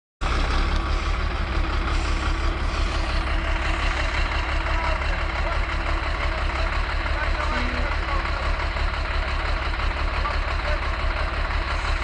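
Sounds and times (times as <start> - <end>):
diesel engine idling: 0.2 - 12.0.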